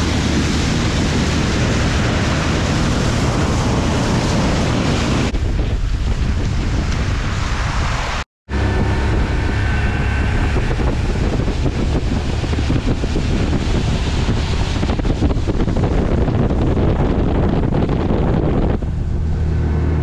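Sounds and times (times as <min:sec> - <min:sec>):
boat engine drone: 0:00.0 - 0:20.0
rushing water: 0:00.0 - 0:20.0
wind on microphone: 0:00.0 - 0:20.0.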